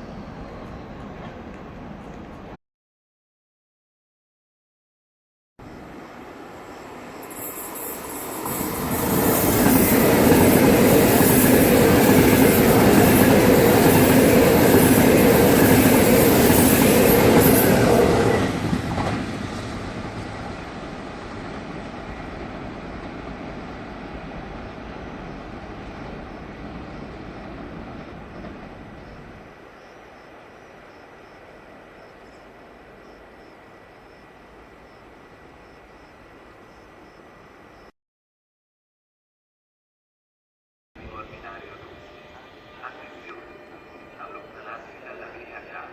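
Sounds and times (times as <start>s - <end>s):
train passing: 0.0s - 2.6s, 5.7s - 37.9s, 41.0s - 45.9s.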